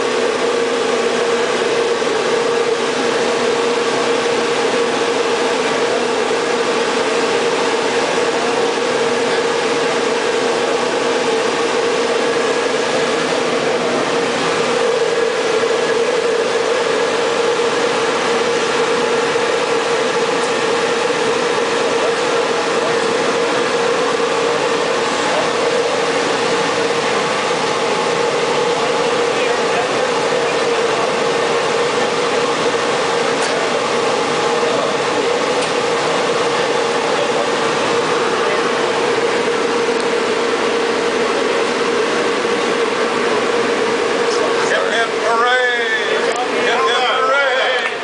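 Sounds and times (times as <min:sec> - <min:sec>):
cooling blowers whirring: 0:00.0 - 0:48.0.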